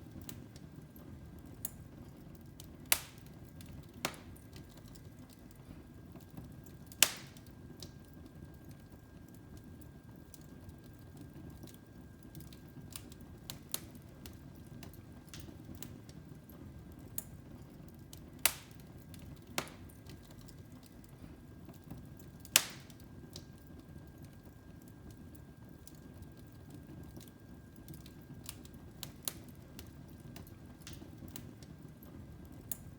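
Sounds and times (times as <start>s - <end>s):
wood fire crackling: 0.0s - 32.9s
fire pops: 0.1s - 8.2s, 8.8s - 32.9s.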